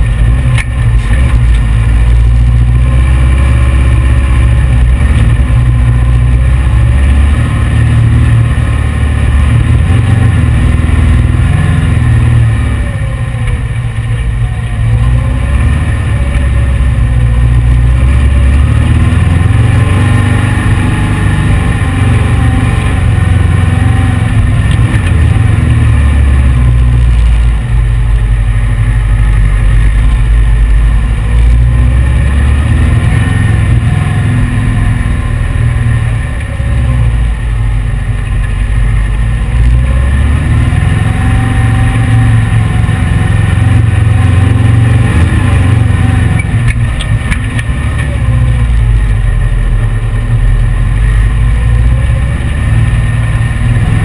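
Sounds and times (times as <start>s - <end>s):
dune buggy engine revving: 0.0s - 54.0s.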